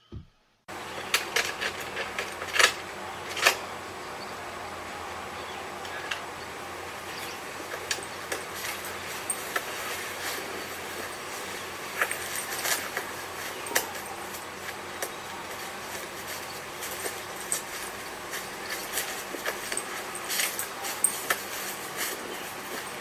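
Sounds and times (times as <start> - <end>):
steady hiss: 0.7 - 23.0.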